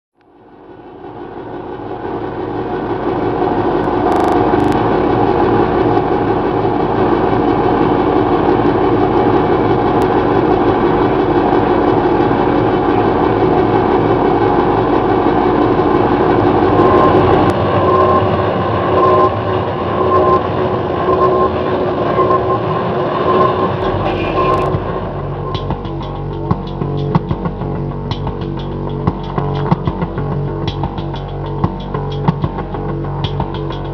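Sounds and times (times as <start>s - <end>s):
electronic noise drone: 0.2s - 33.9s
pulsing high tone: 3.0s - 7.2s, 9.5s - 33.9s.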